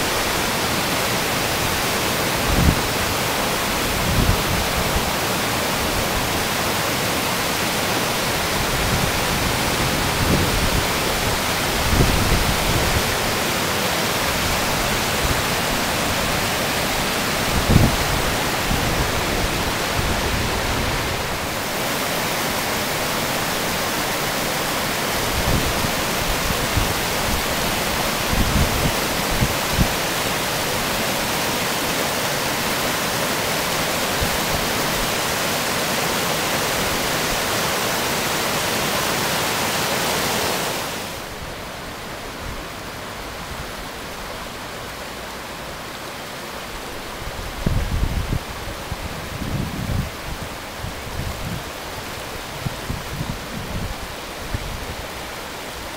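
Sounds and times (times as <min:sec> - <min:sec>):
water rushing over waterfalls: 0:00.0 - 0:55.9.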